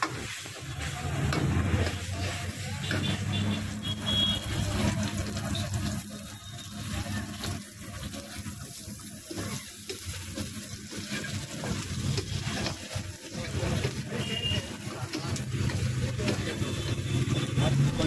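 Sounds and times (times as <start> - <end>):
food sizzling in wok: 0.0 - 18.0
gas burner low rumble: 0.0 - 18.0.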